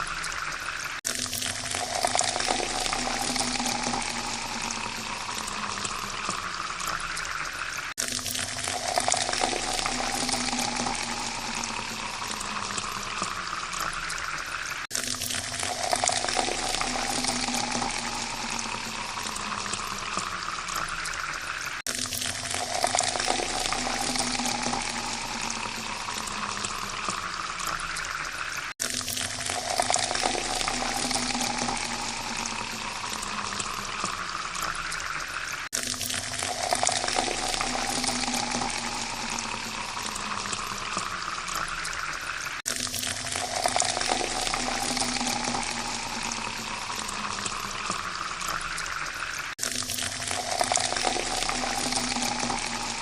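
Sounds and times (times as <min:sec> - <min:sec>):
water pouring into a glass: 0:00.0 - 0:53.0.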